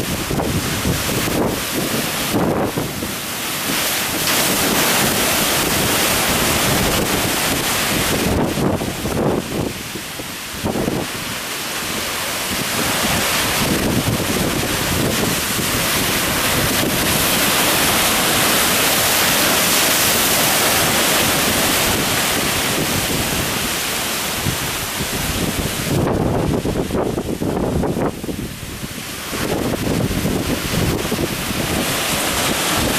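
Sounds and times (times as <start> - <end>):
waves surging and breaking: 0.0 - 32.9
wind buffeting microphone: 0.0 - 32.9.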